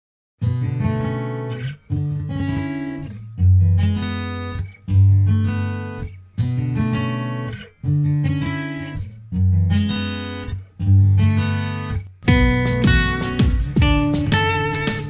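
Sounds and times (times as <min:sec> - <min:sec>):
acoustic guitar strumming chords: 0:00.4 - 0:15.0.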